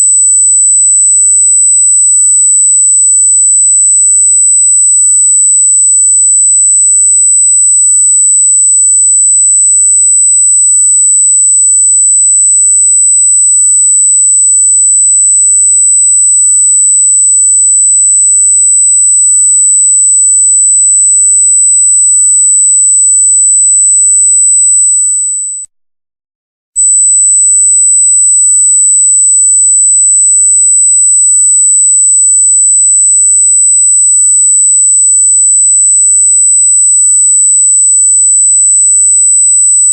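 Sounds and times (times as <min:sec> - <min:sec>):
high-pitched electronic sine tone: 0:00.0 - 0:25.7, 0:26.8 - 0:39.9.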